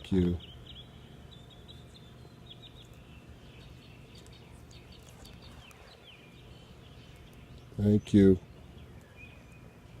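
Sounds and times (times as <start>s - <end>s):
bird chirps: 0.0s - 10.0s
low steady background noise: 0.0s - 10.0s.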